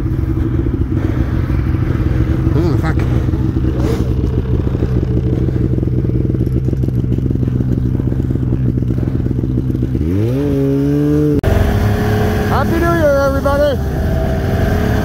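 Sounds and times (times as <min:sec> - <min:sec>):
snowmobile engine idling and revving: 0:00.0 - 0:15.0.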